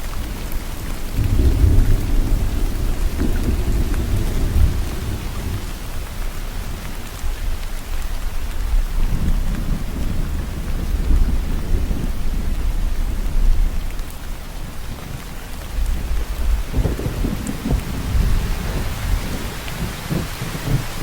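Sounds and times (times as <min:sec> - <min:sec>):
heavy rain: 0:00.0 - 0:21.0
rolling thunder: 0:00.1 - 0:06.9, 0:08.8 - 0:13.9, 0:15.8 - 0:21.0.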